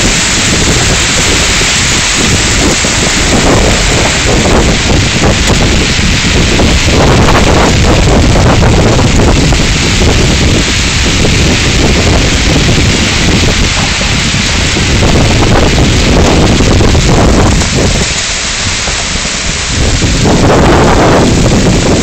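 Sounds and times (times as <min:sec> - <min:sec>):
heavy rain and hail: 0:00.0 - 0:22.0
wind buffeting microphone: 0:00.0 - 0:22.0.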